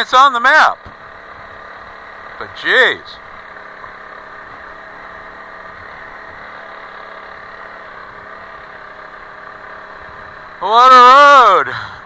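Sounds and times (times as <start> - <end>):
motorcycle engine idling low: 0.0 - 12.0.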